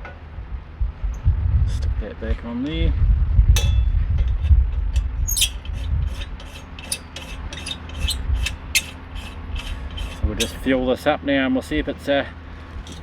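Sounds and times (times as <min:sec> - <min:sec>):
steady low rumble: 0:00.3 - 0:13.0.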